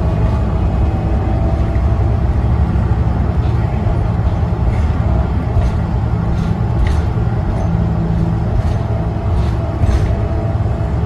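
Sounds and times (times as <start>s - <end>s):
bus engine and road drone: 0.0s - 11.0s.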